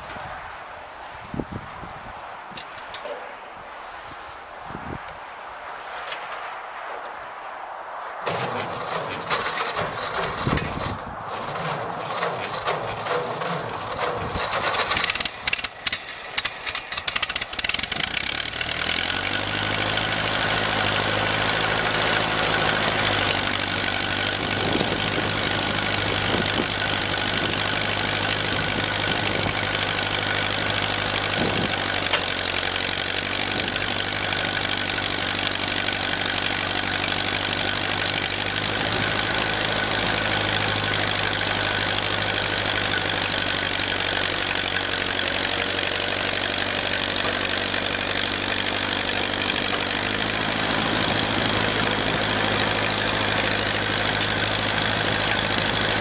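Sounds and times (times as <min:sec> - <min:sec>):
tractor engine cranking: 0:08.2 - 0:56.0
tractor engine idling: 0:08.2 - 0:56.0.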